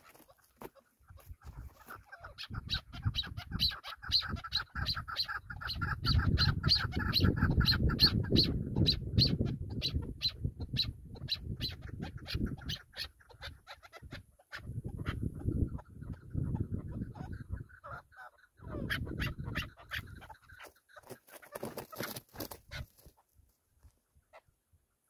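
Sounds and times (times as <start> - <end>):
partridge rhythmic calling: 0.0 - 23.3.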